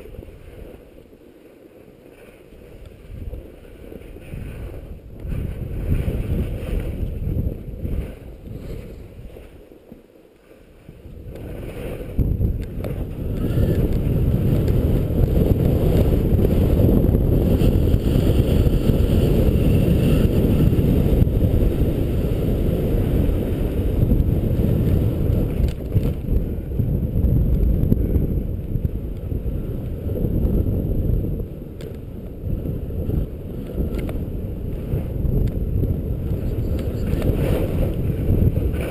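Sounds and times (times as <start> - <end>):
skis sliding on snow: 0.0 - 38.9
wind on microphone: 0.0 - 38.9.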